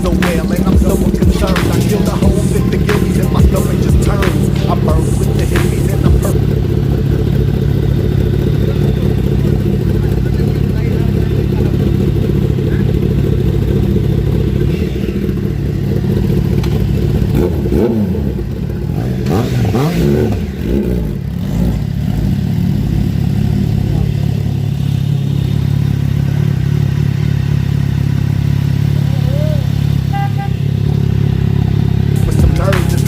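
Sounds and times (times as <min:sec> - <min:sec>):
motorcycle engine running: 0:00.0 - 0:33.0
vehicles passing by: 0:00.0 - 0:33.0.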